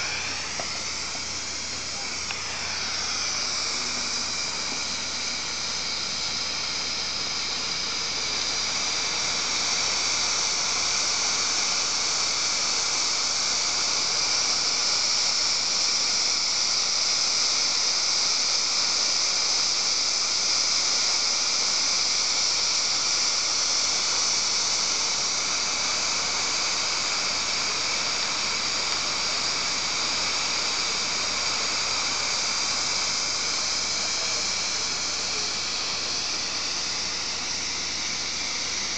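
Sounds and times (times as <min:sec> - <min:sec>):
pressure cooker hissing steam: 0:00.0 - 0:38.9.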